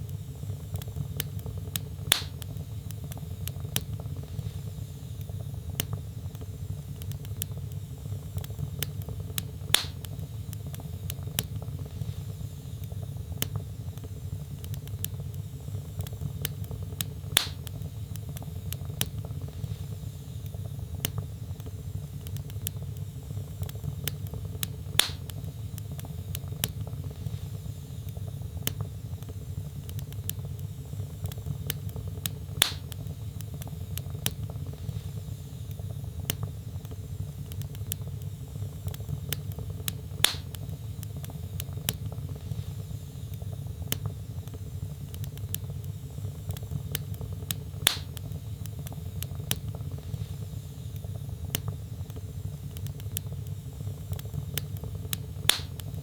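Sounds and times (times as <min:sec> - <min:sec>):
fire burning with crackles: 0:00.0 - 0:56.0
loud fire pops: 0:00.4 - 0:56.0.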